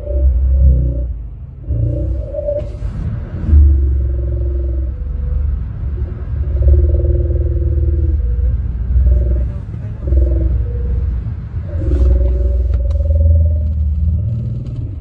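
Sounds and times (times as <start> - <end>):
low droning radio tones: 0.0 - 15.0.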